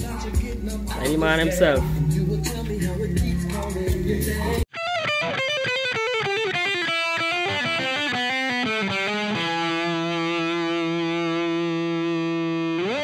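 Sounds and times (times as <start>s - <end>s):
distorted electric guitar: 1.8s - 13.0s.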